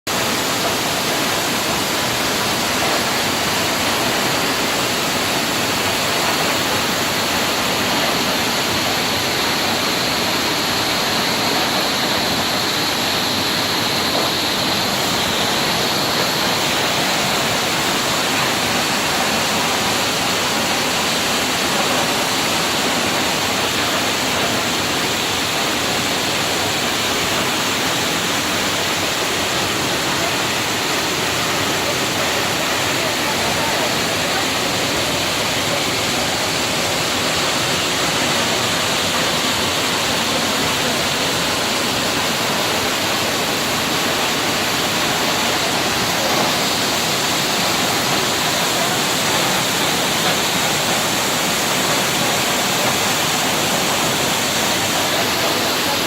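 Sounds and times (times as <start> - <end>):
waterfall crashing: 0.0 - 56.0.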